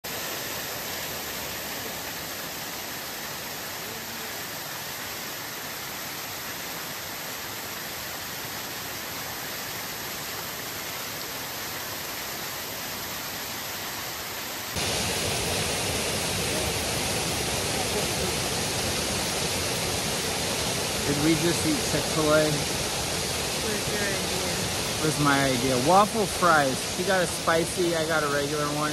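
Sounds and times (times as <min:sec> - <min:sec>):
fountain water splashing: 0:00.0 - 0:28.9.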